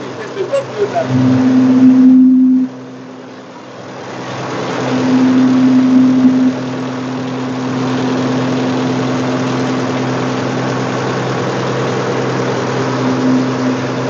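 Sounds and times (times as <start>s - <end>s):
grinding mill humming: 0.0s - 14.0s.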